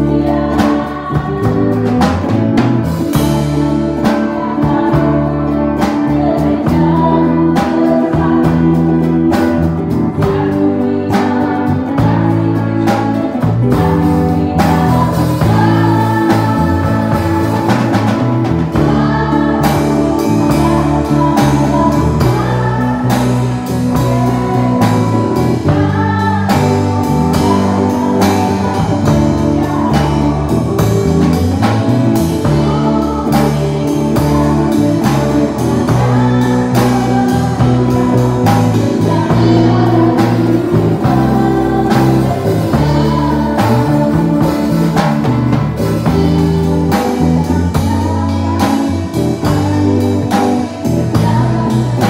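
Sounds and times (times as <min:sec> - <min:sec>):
live rock band playing: 0:00.0 - 0:52.0
person singing: 0:00.0 - 0:52.0.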